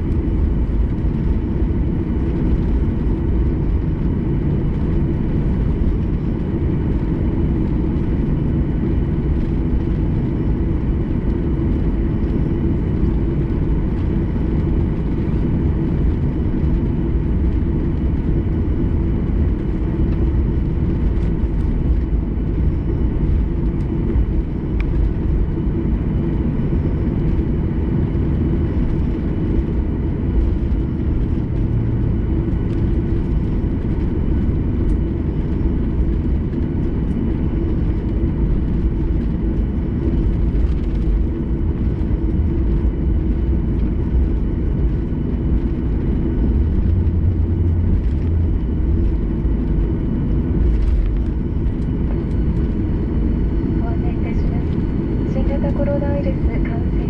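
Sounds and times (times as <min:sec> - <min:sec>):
jet engines rumbling in cabin: 0:00.0 - 0:57.0.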